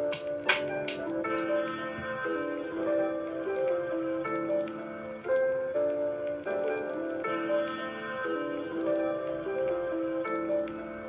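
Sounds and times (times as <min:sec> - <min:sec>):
light plucked melody: 0:00.0 - 0:11.0.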